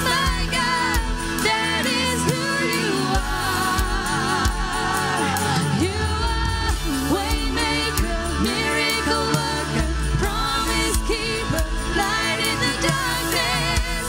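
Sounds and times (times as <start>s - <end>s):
bass: 0.0s - 14.0s
person singing with vibrato: 0.0s - 14.0s.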